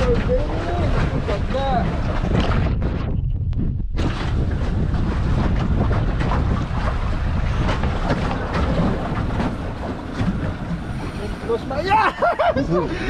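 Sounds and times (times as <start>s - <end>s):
boat motor rumble: 0.0s - 13.0s
rough sea water: 0.0s - 13.0s
wind buffeting microphone: 0.0s - 13.0s.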